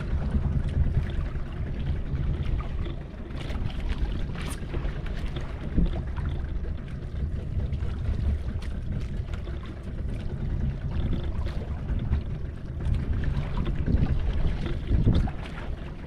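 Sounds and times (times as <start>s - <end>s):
wind noise on microphone: 0.0s - 6.3s, 7.3s - 15.8s
fishing boat engine rumble: 0.0s - 16.0s
water sounds: 0.0s - 16.0s.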